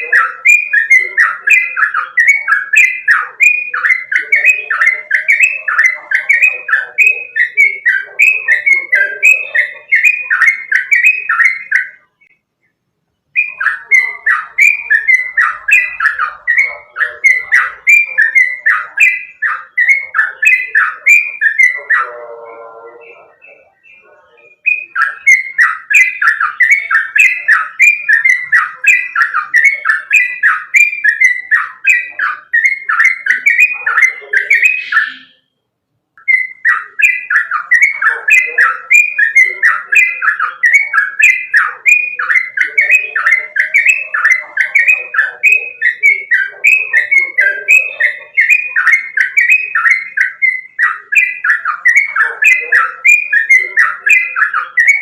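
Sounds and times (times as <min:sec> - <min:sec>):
bulbul singing whistled notes: 0:00.0 - 0:55.0.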